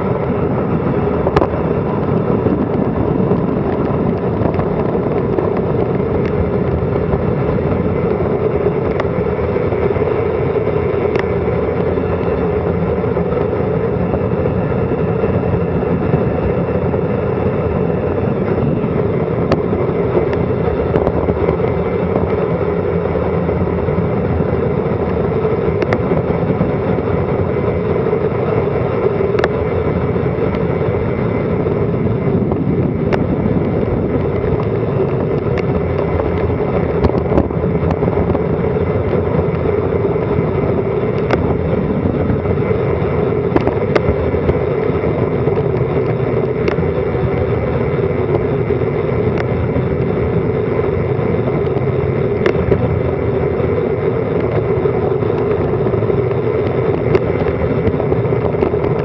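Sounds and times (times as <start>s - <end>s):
wind and road noise roar: 0.0s - 59.0s.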